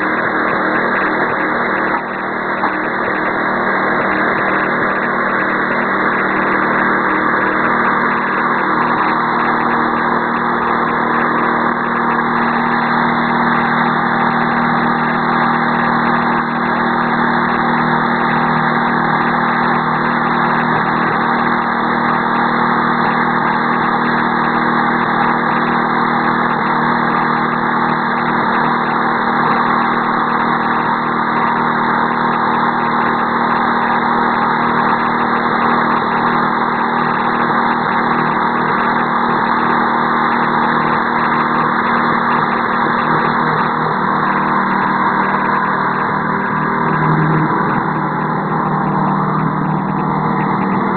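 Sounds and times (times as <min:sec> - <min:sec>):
snow sweeper engine idling: 0:00.0 - 0:50.9.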